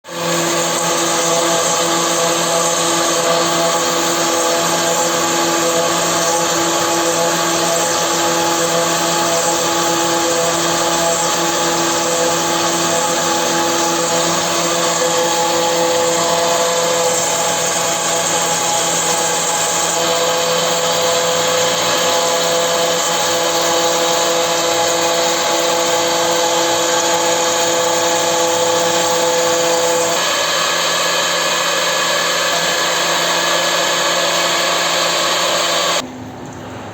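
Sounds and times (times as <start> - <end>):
stone router machine whine: 0.0 - 36.0.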